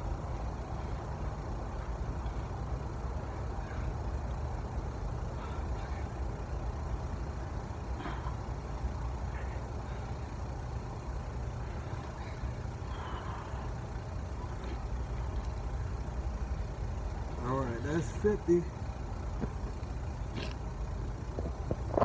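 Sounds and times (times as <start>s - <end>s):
heavy vehicle engine idling: 0.0s - 22.0s.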